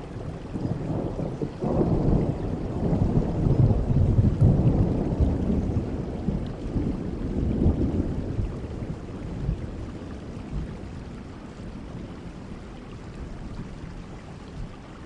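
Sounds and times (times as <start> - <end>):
thunder rumbling: 0.0 - 12.6
rain falling: 0.0 - 15.0.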